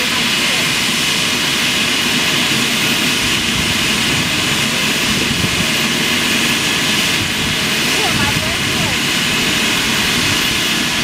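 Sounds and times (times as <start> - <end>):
helicopter rotor rushing: 0.0 - 11.0
helicopter turbine whine: 0.0 - 11.0.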